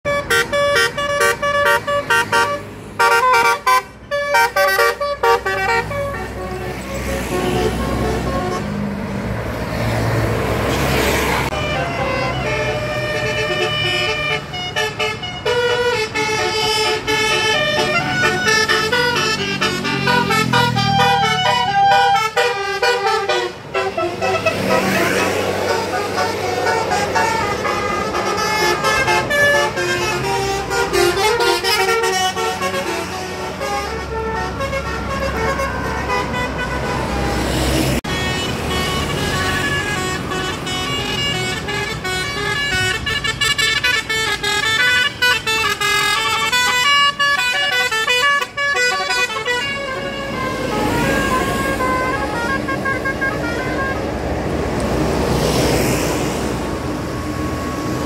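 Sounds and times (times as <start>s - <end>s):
multi-tone air horns melody: 0.0s - 8.8s, 11.4s - 54.5s
bus engine running: 0.1s - 58.0s.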